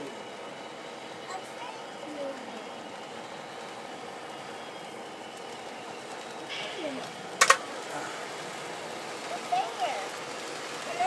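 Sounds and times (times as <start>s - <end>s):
model trains running: 0.0s - 11.0s.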